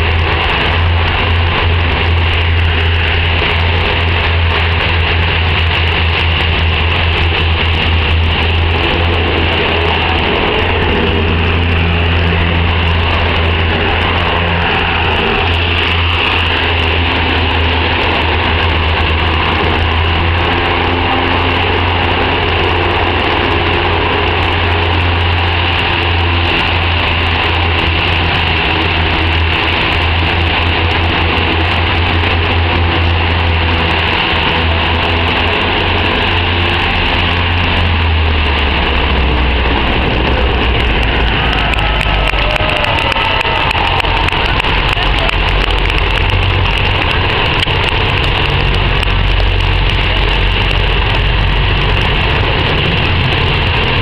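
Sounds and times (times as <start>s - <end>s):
deep constant hum: 0.0s - 54.0s
hovercraft engines roaring: 0.0s - 54.0s.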